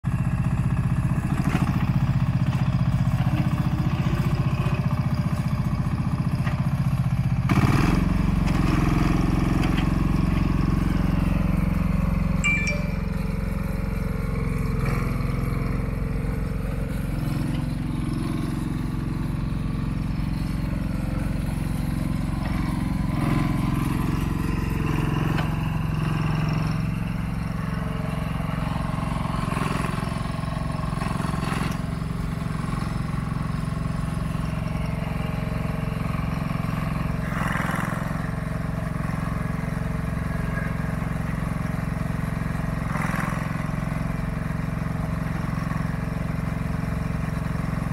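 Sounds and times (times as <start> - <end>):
excavator engine running: 0.1 - 47.9.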